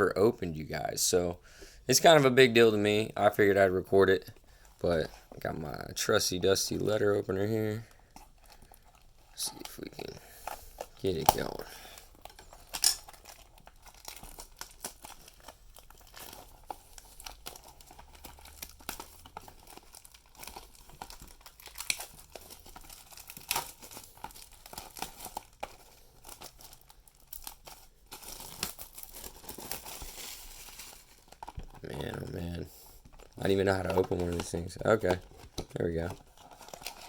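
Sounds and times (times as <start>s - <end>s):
plastic shrink-wrap crinkling and tearing: 1.9s - 37.0s.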